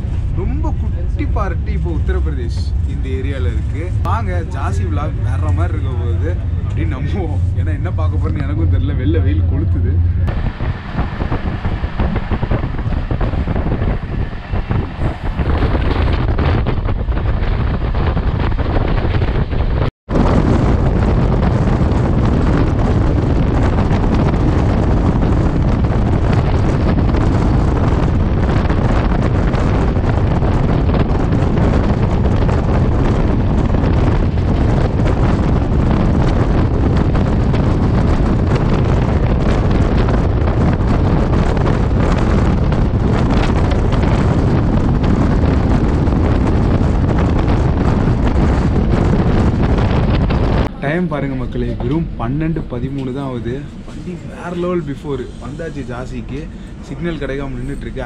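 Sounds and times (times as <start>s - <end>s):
train rushing at speed: 0.0s - 58.0s
wind buffeting microphone: 0.0s - 58.0s.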